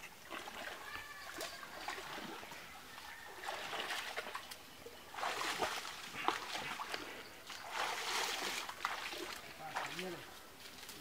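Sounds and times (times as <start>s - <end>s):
water splashing and sloshing: 0.0s - 10.4s.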